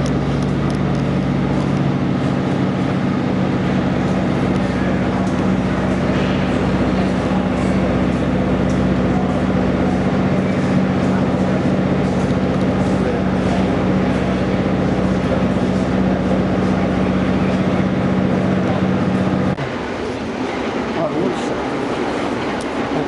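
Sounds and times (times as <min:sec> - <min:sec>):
crowd chatter: 0:00.0 - 0:23.0
low mechanical hum: 0:00.0 - 0:23.0.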